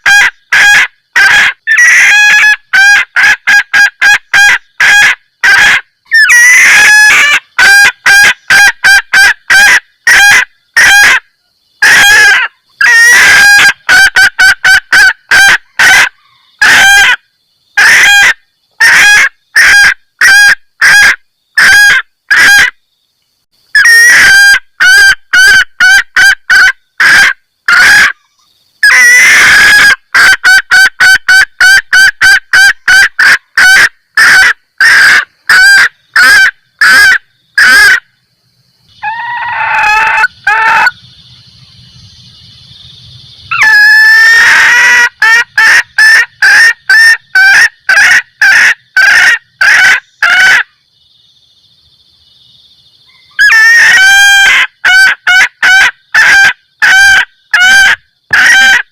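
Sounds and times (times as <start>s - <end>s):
hen clucking call: 0.0s - 17.2s, 17.8s - 22.8s, 23.7s - 28.2s, 28.8s - 38.0s, 39.0s - 41.0s, 43.5s - 50.7s, 53.1s - 58.9s.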